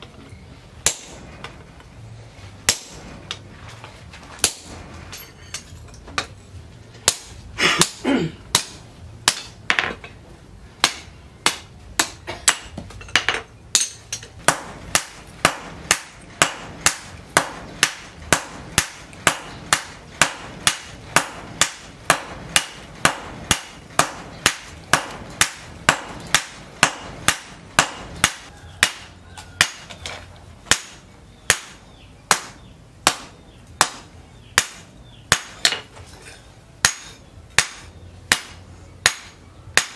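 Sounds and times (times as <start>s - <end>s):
hammer striking hot steel on anvil: 0.8s - 1.6s, 2.7s - 3.4s, 4.4s - 5.6s, 7.0s - 10.0s, 10.8s - 35.9s, 36.8s - 39.9s.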